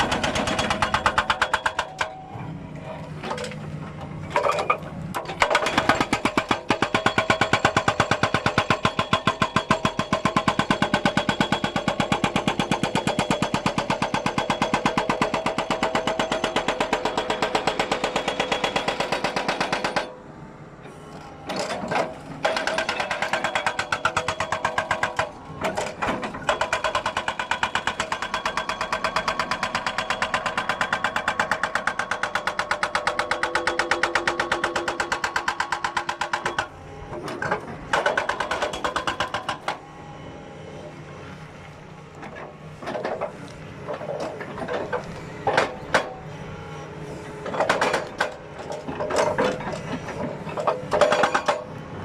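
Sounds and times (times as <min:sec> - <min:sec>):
hydraulic breaker hammer pounding: 0:00.0 - 0:02.2, 0:04.4 - 0:20.2, 0:21.4 - 0:39.9, 0:42.2 - 0:46.2, 0:47.3 - 0:51.8.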